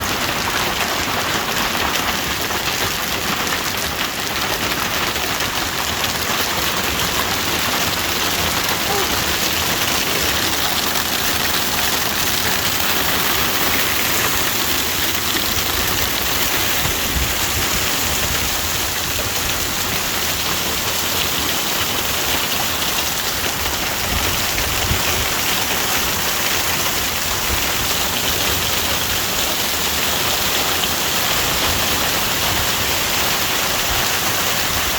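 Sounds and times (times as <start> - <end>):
hail and rain pelting down: 0.0 - 34.9.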